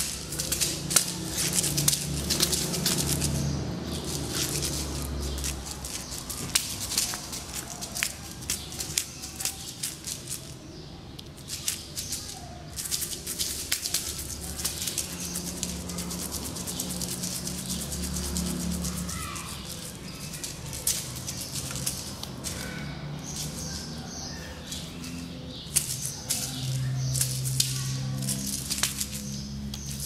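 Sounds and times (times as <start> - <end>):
toy clicking on hard floor: 0.0 - 24.0, 25.7 - 30.0.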